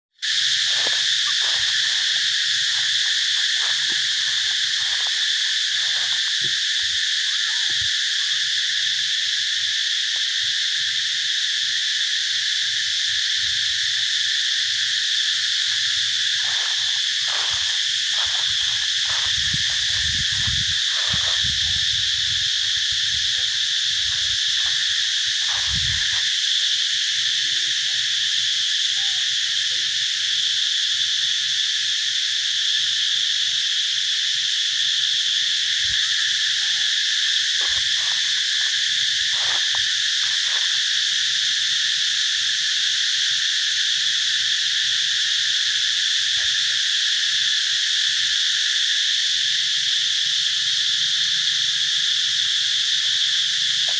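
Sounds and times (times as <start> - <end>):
insect chorus: 0.1 - 53.9.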